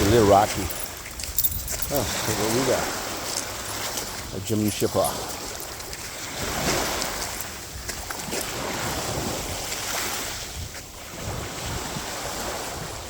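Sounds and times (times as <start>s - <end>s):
wind rumbling on microphone: 0.0s - 13.0s
surf washing on a beach: 1.9s - 13.0s.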